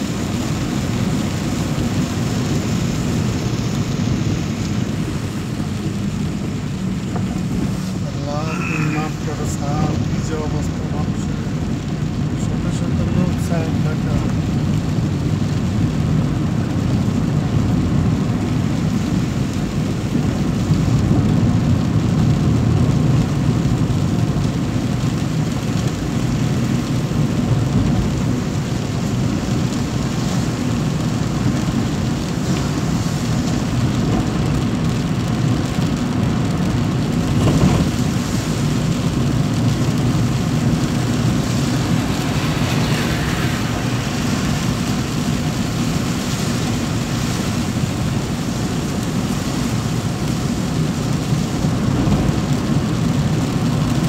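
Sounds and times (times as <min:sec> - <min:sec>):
rain: 0:00.0 - 0:54.0
vehicle engine and tyres droning: 0:00.0 - 0:54.0.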